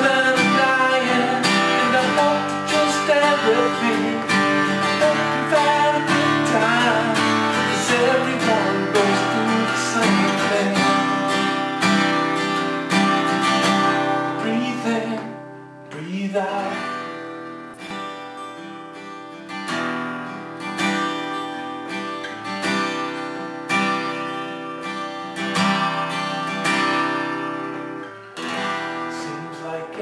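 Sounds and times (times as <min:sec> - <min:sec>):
acoustic guitar strumming chords: 0:00.0 - 0:30.0.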